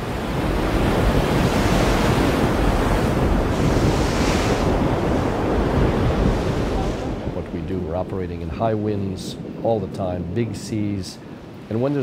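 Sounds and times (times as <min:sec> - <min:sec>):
loud wind and surf: 0:00.0 - 0:12.0
wind buffeting microphone: 0:00.0 - 0:12.0.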